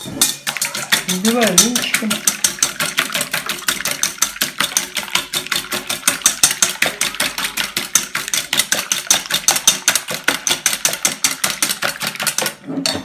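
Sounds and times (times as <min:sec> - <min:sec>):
whisk beating in metal bowl: 0:00.0 - 0:13.0.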